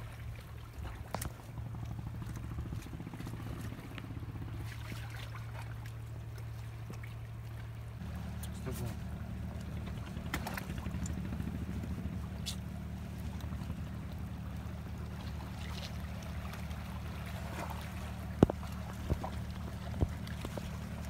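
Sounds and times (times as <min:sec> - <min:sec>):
low motor hum: 0:00.0 - 0:21.0
water trickling among rocks: 0:00.0 - 0:21.0.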